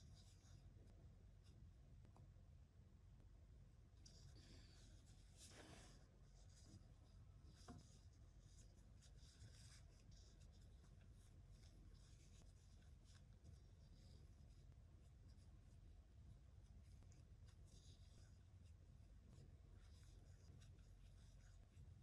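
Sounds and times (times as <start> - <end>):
crochet hook rustling yarn: 0.0 - 1.6, 4.0 - 22.0
low steady hum: 0.0 - 22.0.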